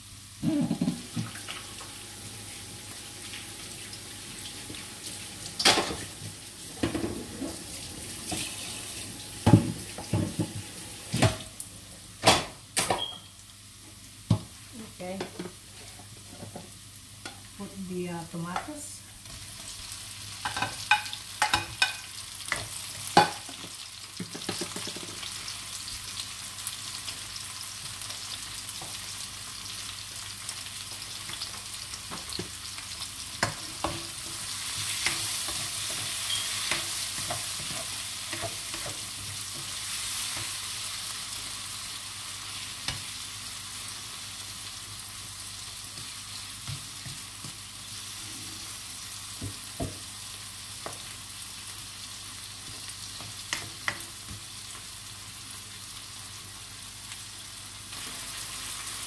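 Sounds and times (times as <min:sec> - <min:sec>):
vegetables sizzling in oil: 0:00.0 - 0:59.0.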